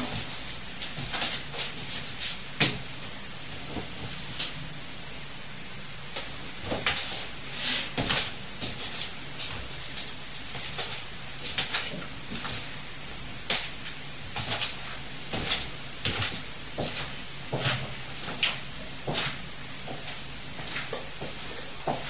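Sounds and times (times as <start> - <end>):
room noise hum and hiss: 0.0 - 22.0.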